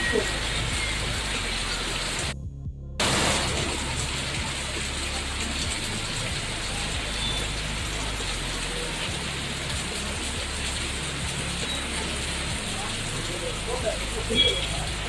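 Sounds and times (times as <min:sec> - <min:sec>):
rain hiss: 0:00.0 - 0:02.4, 0:03.0 - 0:15.0.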